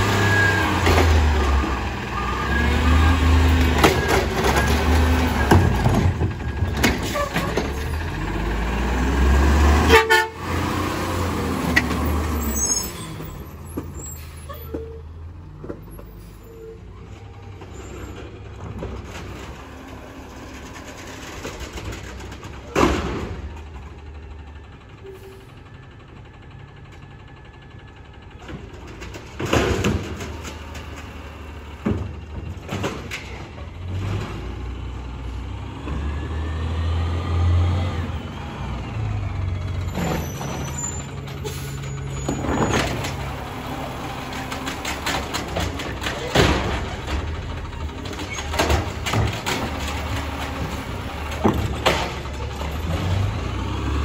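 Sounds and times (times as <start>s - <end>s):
distant garbage truck working: 0.0s - 54.0s
garbage truck diesel engine: 0.0s - 54.0s.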